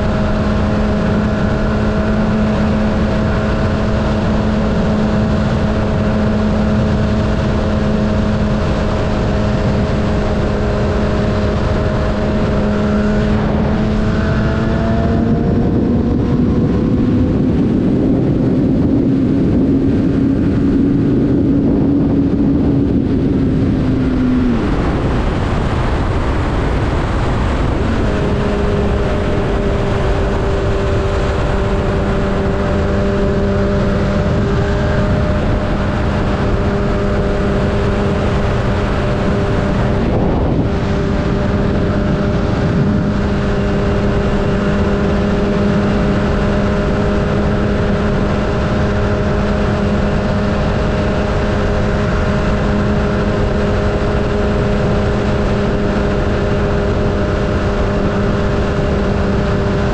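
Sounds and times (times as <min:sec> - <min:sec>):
motorcycle engine hum: 0:00.0 - 0:59.9
wind and road noise: 0:00.0 - 0:59.9.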